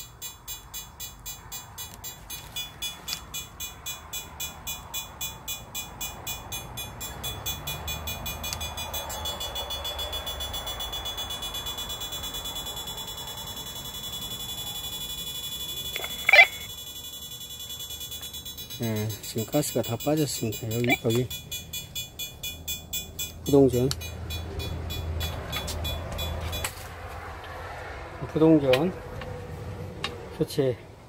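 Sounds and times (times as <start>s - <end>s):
gas leak detector beeping: 0.0s - 26.8s.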